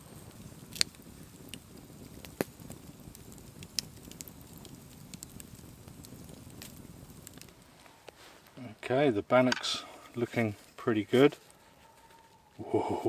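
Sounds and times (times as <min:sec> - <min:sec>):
fire crackling clicks: 0:00.0 - 0:12.6
campfire flames: 0:00.0 - 0:13.0
fire popping: 0:00.0 - 0:13.0.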